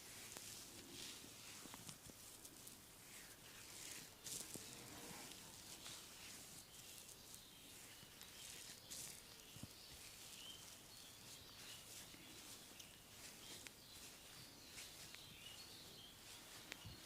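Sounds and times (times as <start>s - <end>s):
faint rustles: 0.0s - 17.0s.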